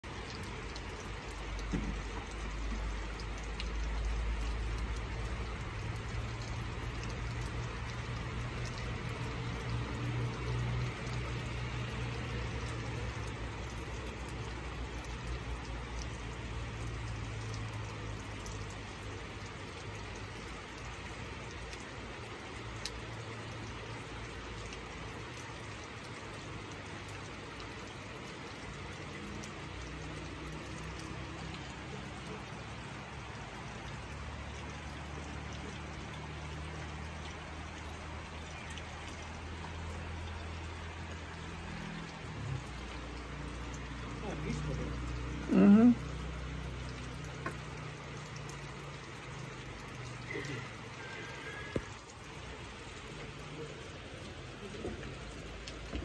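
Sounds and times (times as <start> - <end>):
drips ticking: 0.0 - 56.0
steady rain: 0.0 - 56.0.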